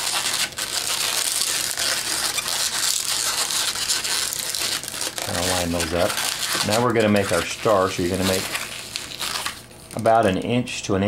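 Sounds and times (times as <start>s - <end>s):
balloons rubbing together: 0.0s - 10.2s.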